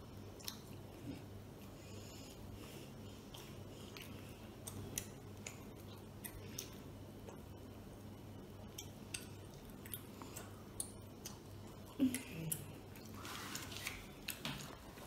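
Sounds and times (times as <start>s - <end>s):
boy chewing food: 0.0s - 7.7s, 8.6s - 15.0s
steady low hum: 0.0s - 15.0s.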